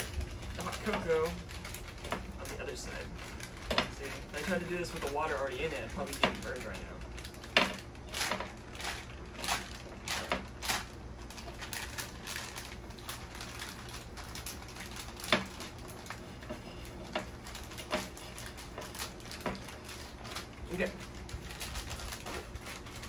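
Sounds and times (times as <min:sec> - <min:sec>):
plastic pouches crinkling: 0:00.0 - 0:23.0.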